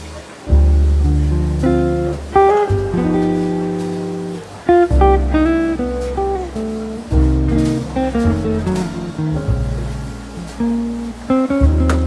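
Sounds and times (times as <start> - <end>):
acoustic guitar plucking: 0.0 - 12.0
sustained low notes: 0.0 - 12.0.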